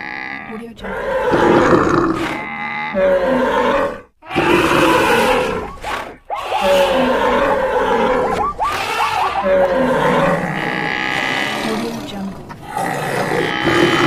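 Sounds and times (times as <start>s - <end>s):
cartoon animal calls: 0.0s - 14.0s.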